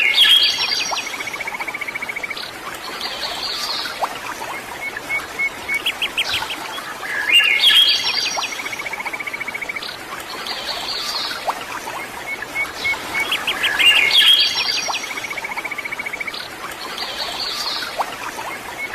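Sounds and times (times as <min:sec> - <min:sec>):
birds singing and chirping: 0:00.0 - 0:18.9
running water: 0:00.0 - 0:18.9.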